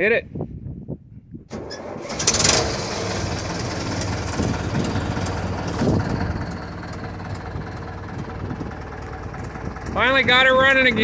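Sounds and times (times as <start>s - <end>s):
engine starting and running: 1.5s - 11.0s.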